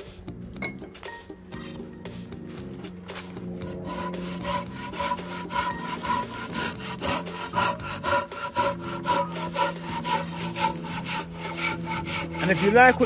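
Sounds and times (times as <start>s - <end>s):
hand saw rasping through log: 2.4s - 13.0s.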